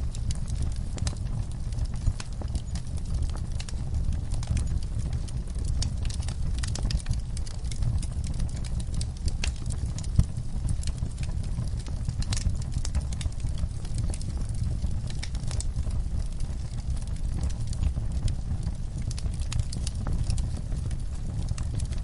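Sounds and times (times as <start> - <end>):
low fire rumble: 0.0 - 22.0
wood fire crackling and popping: 0.0 - 22.0.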